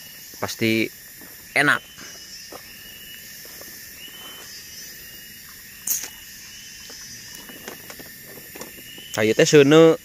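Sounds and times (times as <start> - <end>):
high insect chorus: 0.0 - 10.0.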